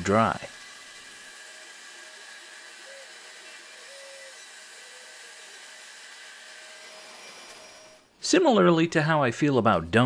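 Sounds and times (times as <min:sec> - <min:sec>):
bandsaw cutting wood: 0:00.0 - 0:08.1.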